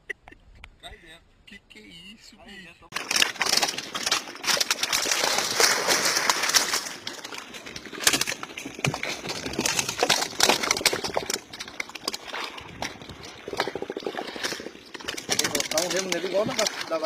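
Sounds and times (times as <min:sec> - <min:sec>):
fish slapping and flapping: 0:02.9 - 0:17.0
water splashing and churning: 0:02.9 - 0:17.0.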